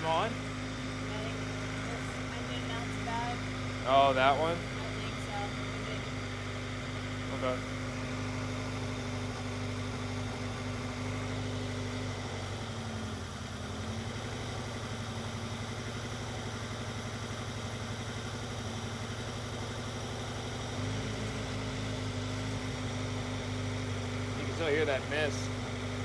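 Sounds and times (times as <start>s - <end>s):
car engine idling with misfire: 0.0s - 26.0s.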